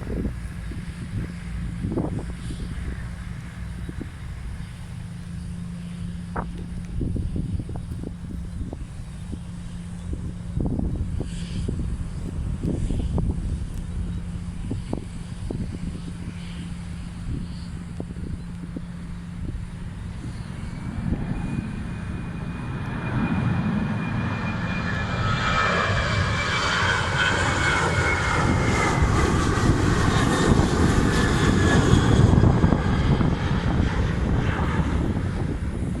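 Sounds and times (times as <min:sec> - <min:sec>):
jet engines whining: 0:00.0 - 0:36.0
wind buffeting microphone: 0:00.0 - 0:36.0.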